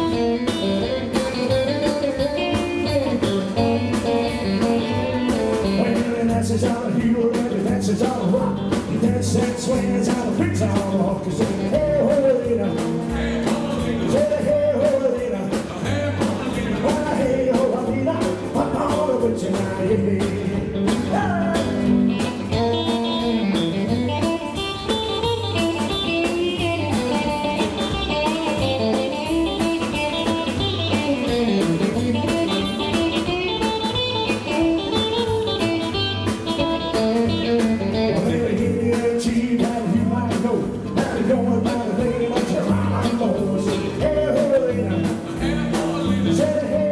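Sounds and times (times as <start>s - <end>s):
fast lead guitar runs: 0.0s - 46.9s
rockabilly band playing: 0.0s - 46.9s.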